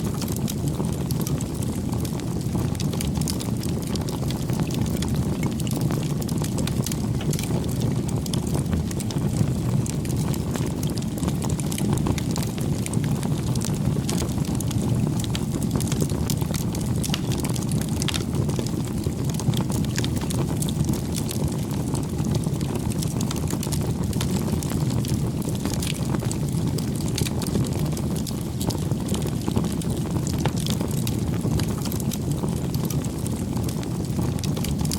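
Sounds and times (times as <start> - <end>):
campfire flames rumbling: 0.0 - 34.9
fire crackling and popping: 0.0 - 34.9.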